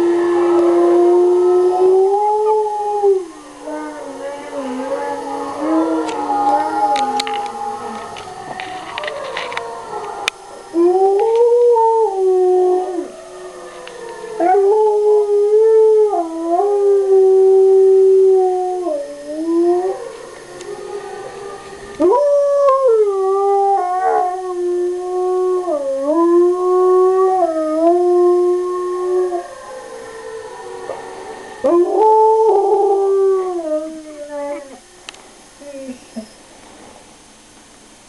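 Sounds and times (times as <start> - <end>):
dog howling: 0.0 - 35.0
recorded wolves howling: 0.0 - 36.4.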